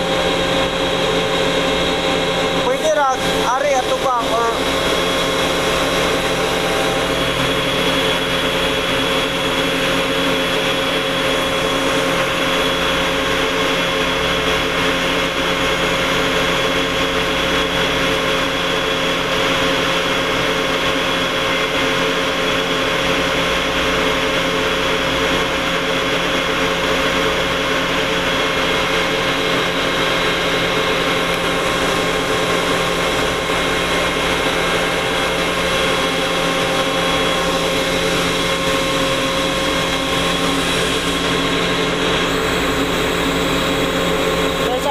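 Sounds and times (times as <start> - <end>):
industrial air compressor running: 0.0 - 44.9.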